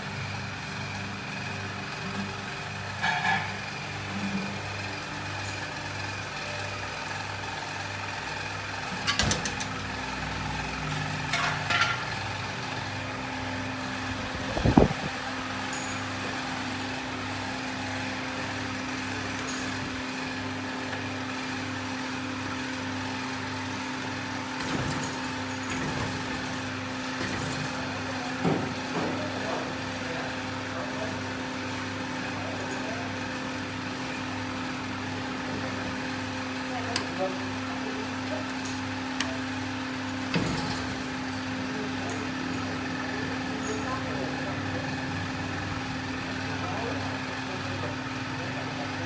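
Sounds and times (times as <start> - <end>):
cutting machine humming: 0.0 - 49.0.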